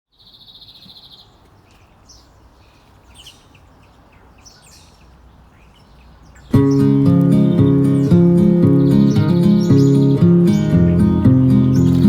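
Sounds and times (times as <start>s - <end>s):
birds chirping: 0.1s - 12.0s.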